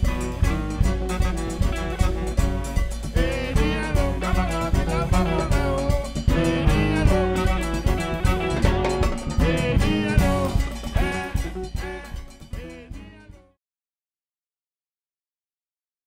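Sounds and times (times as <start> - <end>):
live band with drums: 0.0 - 13.4.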